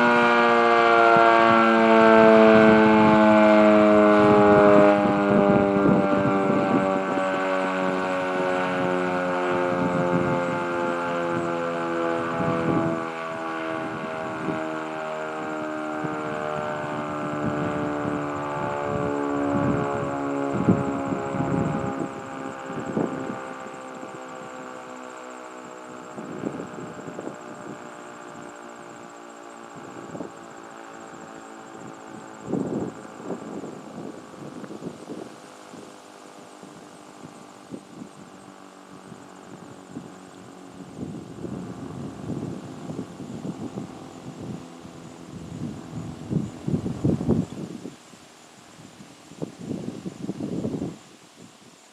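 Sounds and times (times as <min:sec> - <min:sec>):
steady mechanical drone: 0:00.0 - 0:51.1
faint high pulsing whine: 0:00.0 - 0:51.9
warning siren steady tone: 0:00.0 - 0:51.9.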